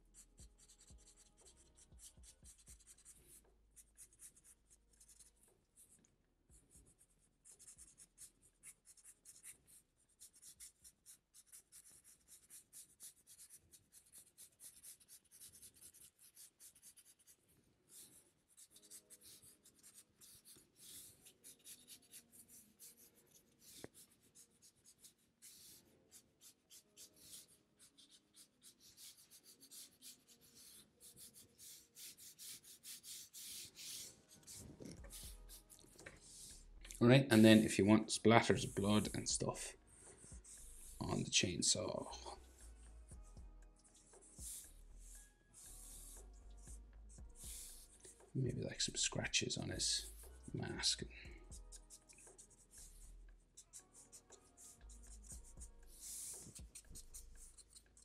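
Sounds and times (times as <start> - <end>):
marker scratching on paper: 0.0 - 36.7, 37.4 - 50.9, 51.5 - 58.0.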